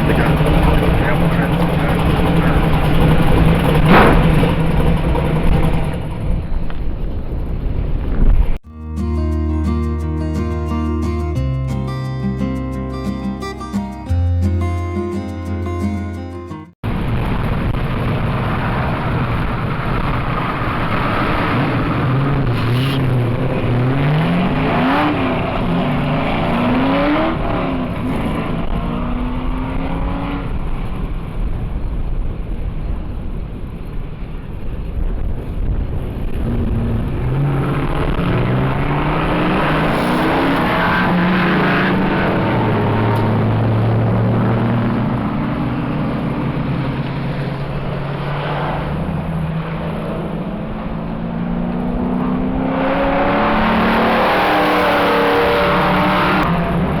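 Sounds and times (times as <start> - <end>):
car engine accelerating: 0.0 - 8.6, 16.8 - 57.0.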